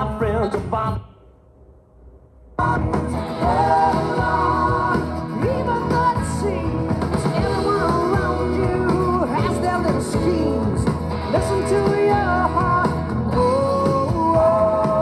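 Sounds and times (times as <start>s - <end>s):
rock and roll song with singer: 0.0s - 1.1s, 2.6s - 15.0s.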